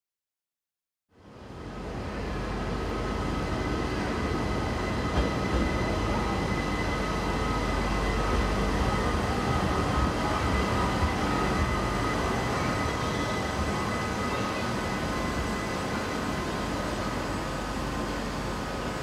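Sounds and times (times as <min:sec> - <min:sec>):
train rolling rumble: 0:01.2 - 0:19.0
steady high tones: 0:03.0 - 0:19.0.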